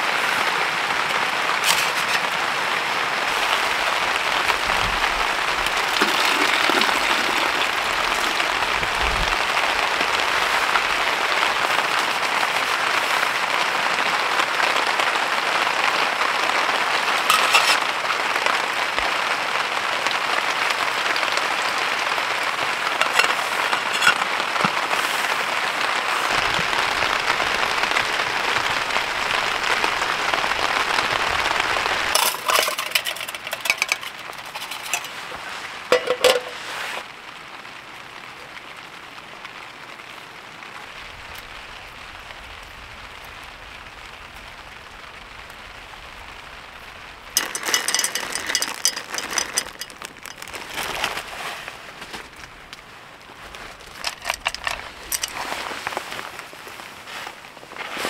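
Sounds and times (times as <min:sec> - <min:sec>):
heavy rain on tent fabric: 0:00.0 - 0:58.0.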